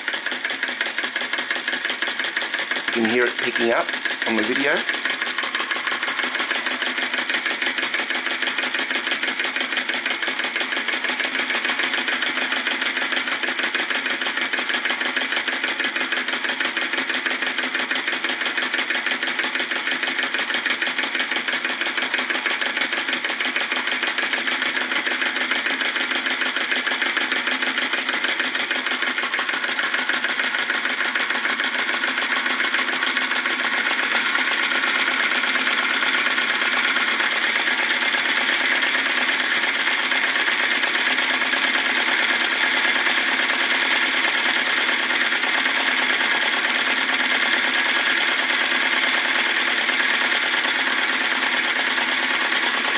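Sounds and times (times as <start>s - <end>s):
small engine clattering: 0.0s - 52.9s.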